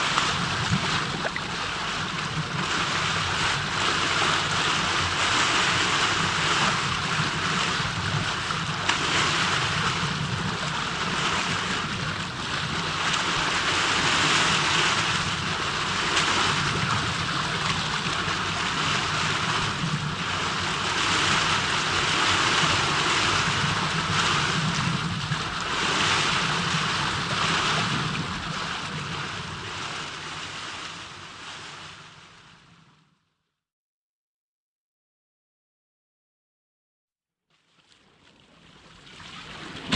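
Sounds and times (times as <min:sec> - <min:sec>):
rushing water: 0:00.0 - 0:32.7, 0:37.7 - 0:39.9.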